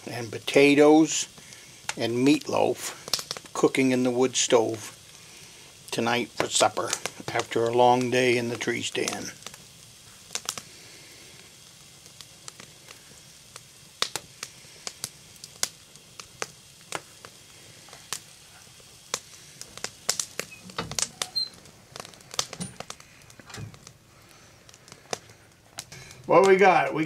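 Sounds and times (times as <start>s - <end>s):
wood fire crackling in a stove: 0.0s - 27.0s.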